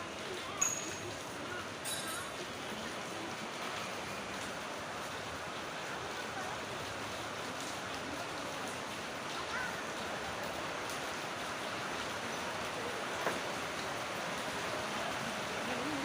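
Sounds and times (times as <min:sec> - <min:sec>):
rain pouring: 0:00.0 - 0:16.0.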